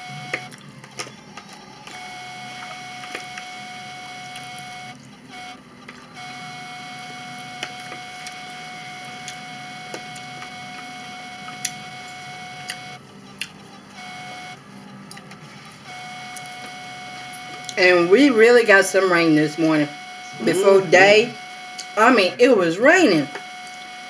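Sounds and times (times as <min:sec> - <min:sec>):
electronic whine: 0:00.0 - 0:24.0.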